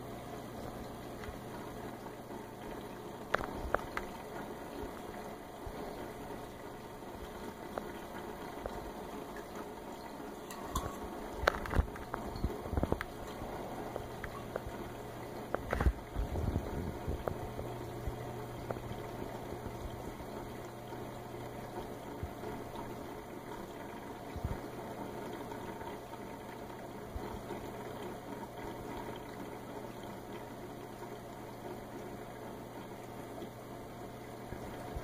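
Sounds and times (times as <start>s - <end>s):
churning circulating water: 0.0s - 35.0s
low pump hum: 0.0s - 35.0s.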